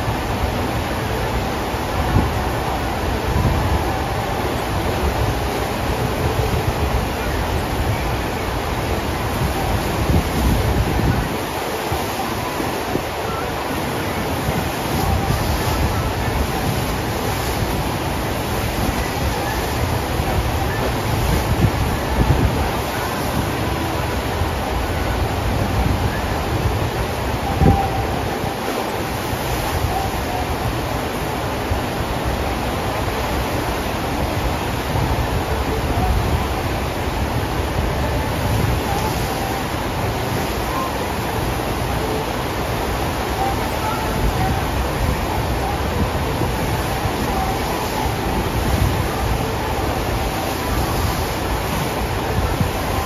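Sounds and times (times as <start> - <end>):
rushing water and spray: 0.0 - 53.0
wind buffeting microphone: 0.0 - 53.0.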